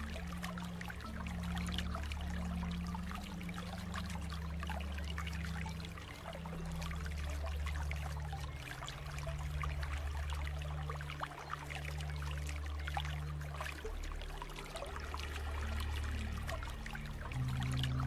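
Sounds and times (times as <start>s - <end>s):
stream trickling over rocks: 0.0s - 18.0s.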